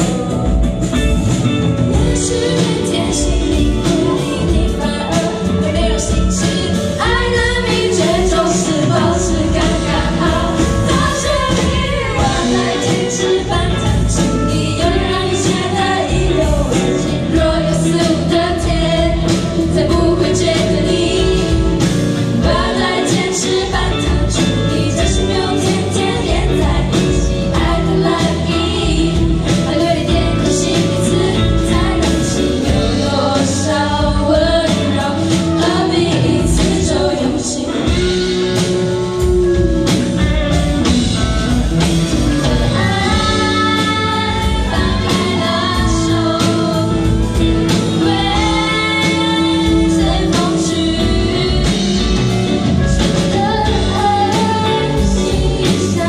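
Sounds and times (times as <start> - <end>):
drums: 0.0 - 56.0
electric guitars: 0.0 - 56.0
keyboard: 0.0 - 56.0
female singers singing together: 1.9 - 38.2, 42.5 - 52.2, 53.0 - 56.0.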